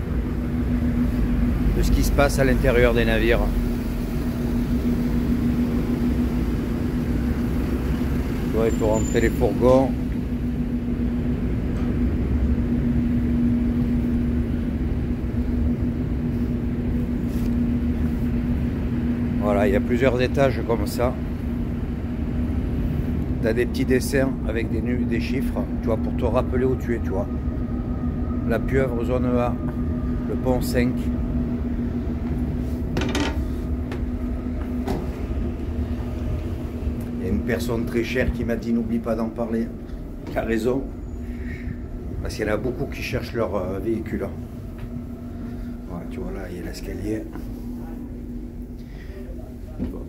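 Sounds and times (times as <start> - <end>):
constant hum: 0.0 - 50.0
low drone of ship machinery: 0.0 - 50.0.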